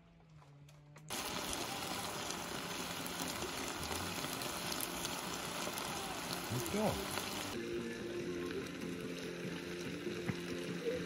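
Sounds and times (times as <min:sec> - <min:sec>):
meat sizzling on griddle: 0:01.1 - 0:11.0.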